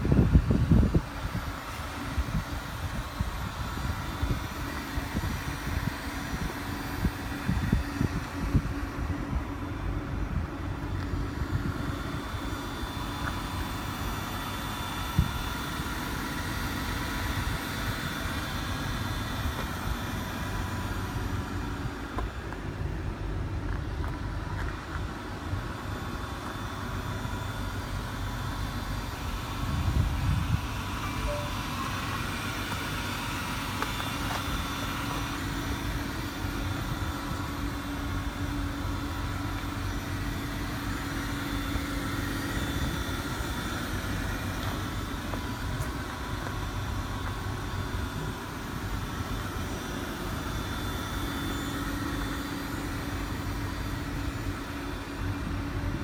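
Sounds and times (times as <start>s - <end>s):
vehicle hum: 0.0s - 56.0s.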